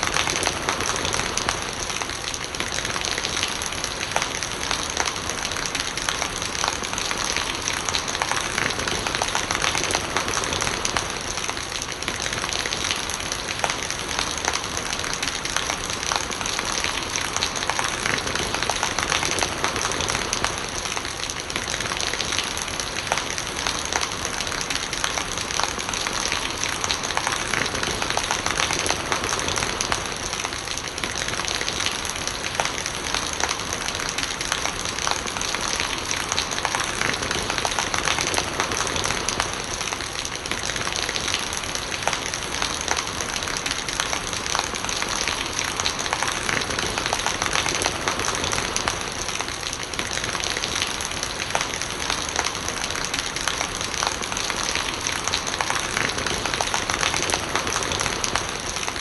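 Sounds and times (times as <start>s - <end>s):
rainwater gurgling: 0.0s - 59.0s
steady rain: 0.0s - 59.0s.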